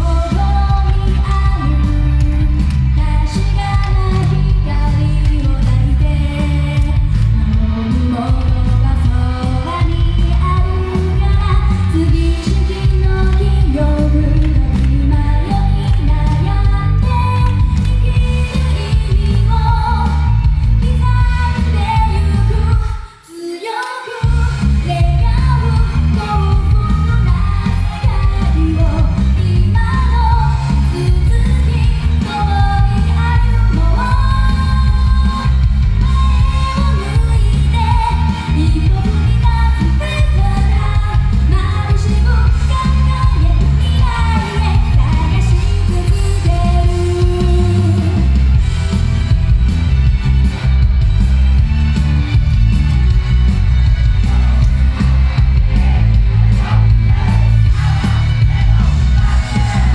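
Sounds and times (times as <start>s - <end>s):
backing music with heavy bass: 0.0s - 23.1s, 24.2s - 59.9s
woman singing into microphone: 0.0s - 48.4s.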